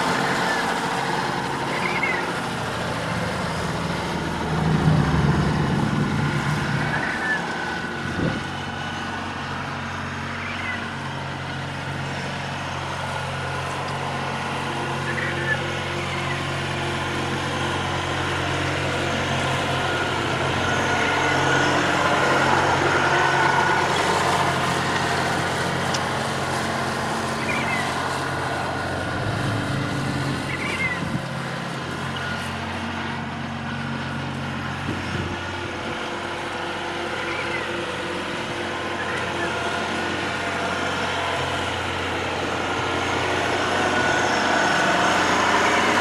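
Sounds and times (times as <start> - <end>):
rotary cutter shredding weeds: 0.0 - 46.0
tractor engine running: 0.0 - 46.0.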